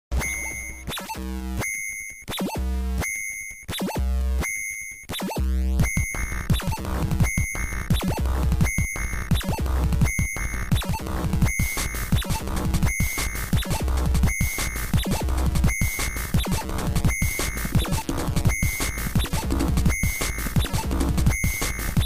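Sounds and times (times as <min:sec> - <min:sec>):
electronic music with steady beat: 0:00.1 - 0:22.0.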